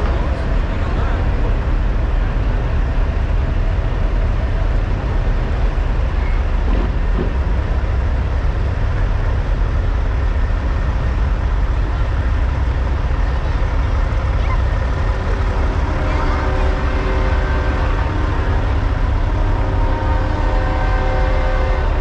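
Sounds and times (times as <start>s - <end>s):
diesel truck engines idling: 0.0s - 22.0s.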